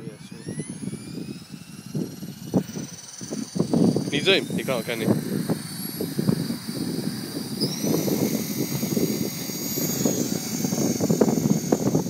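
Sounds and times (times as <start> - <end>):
rc helicopter motor and rotor whine: 0.0 - 12.0
wind buffeting microphone: 0.0 - 12.0.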